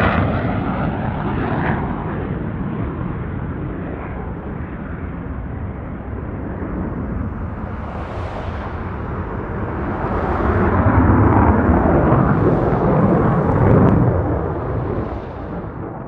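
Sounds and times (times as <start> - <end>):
military jet flying past: 0.0 - 16.0.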